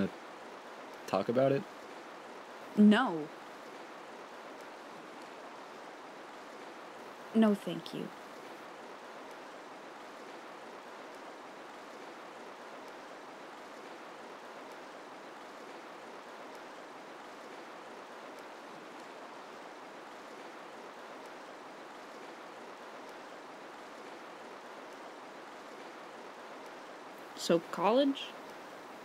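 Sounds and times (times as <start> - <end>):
river water running: 0.0 - 29.0.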